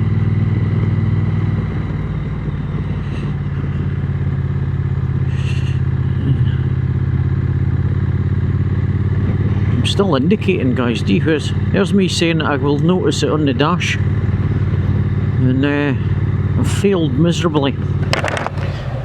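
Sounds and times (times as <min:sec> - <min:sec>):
motorcycle engine running slowly: 0:00.0 - 0:19.0.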